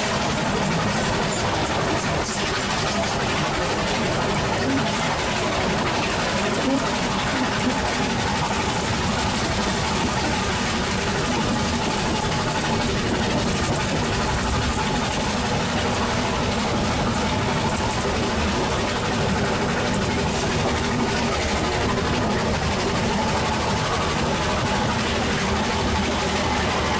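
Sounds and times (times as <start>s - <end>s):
train rumbling on the track: 0.0s - 26.9s.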